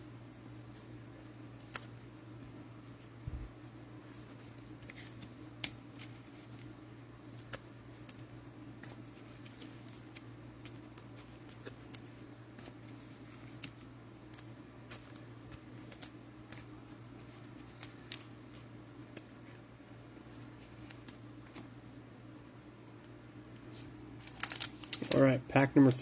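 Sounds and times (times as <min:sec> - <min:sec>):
steady low hum: 0:00.0 - 0:26.0
trading cards clicking and rustling: 0:01.6 - 0:19.7, 0:20.3 - 0:21.7, 0:24.2 - 0:26.0.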